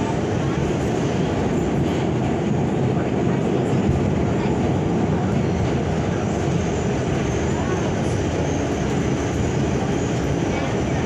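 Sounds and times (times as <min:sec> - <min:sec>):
subway car rumbling: 0:00.0 - 0:11.0.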